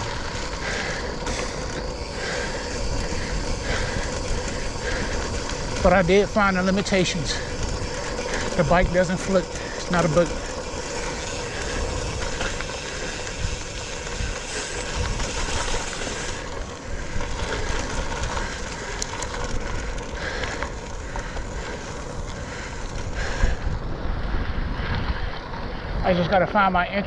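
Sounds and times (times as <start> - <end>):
rain: 0.0 - 23.6
bicycle bumps: 0.0 - 26.7
bicycle rolling over wet ground: 0.0 - 27.0
wind buffeting microphone: 0.0 - 27.0.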